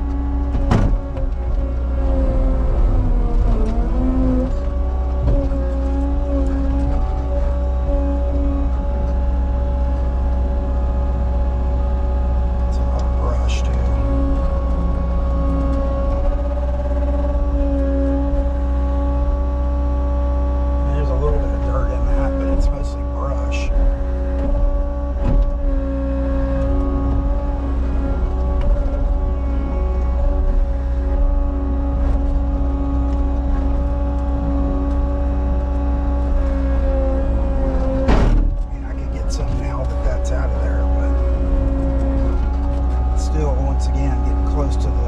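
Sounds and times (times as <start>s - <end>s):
diesel engine rumbling with whine: 0.0s - 45.0s.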